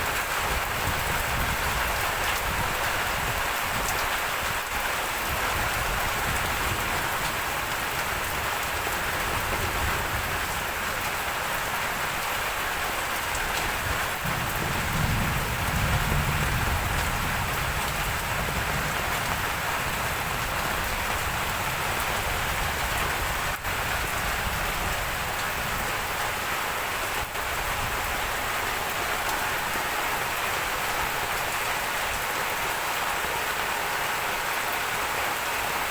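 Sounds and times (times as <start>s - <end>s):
rain pattering on leaves: 0.0s - 35.9s.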